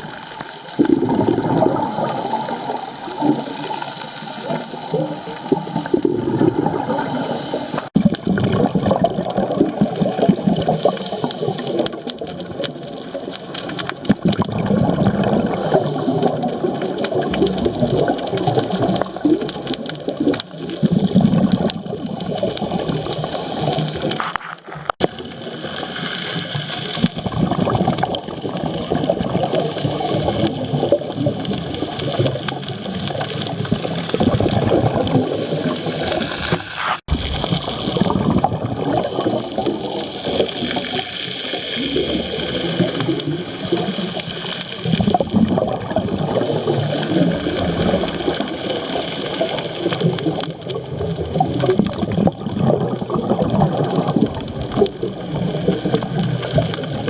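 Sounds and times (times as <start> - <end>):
underwater bubbles gurgling: 0.0 - 57.0.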